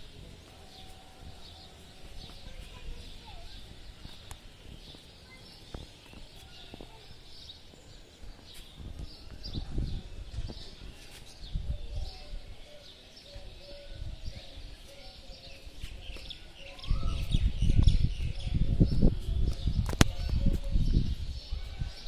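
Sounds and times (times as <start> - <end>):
birds chirping: 0.0 - 18.6.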